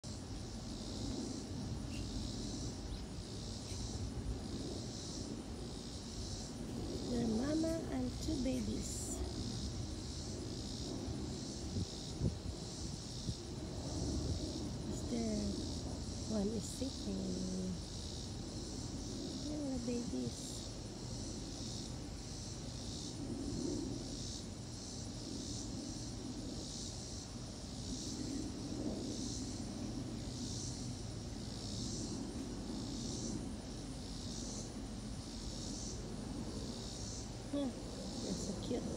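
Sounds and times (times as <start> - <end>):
insects buzzing in chorus: 0.0 - 38.9.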